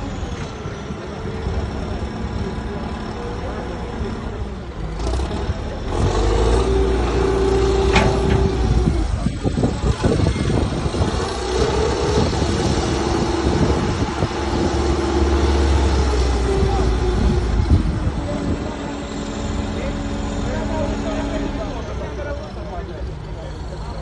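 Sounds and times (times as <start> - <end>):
heavy vehicle engine whining: 0.0 - 24.0.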